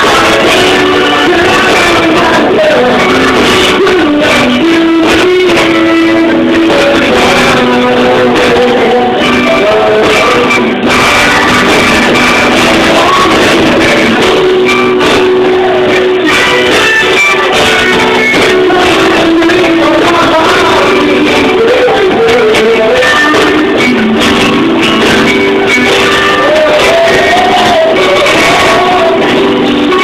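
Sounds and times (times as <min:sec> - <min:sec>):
electric guitar: 0:00.0 - 0:30.0
live band playing: 0:00.0 - 0:30.0
person singing: 0:00.0 - 0:30.0.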